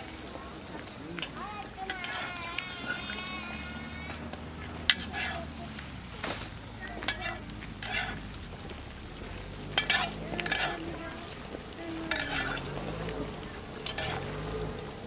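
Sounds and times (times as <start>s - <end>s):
utensil scraping a cooking pan: 0.0s - 14.8s
low steady background noise: 0.0s - 15.0s.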